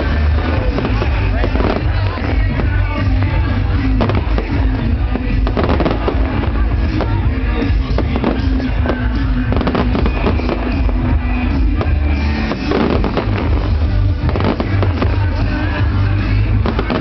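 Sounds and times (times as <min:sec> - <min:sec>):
firework bangs and crackles: 0:00.0 - 0:17.0
loud music: 0:00.0 - 0:17.0.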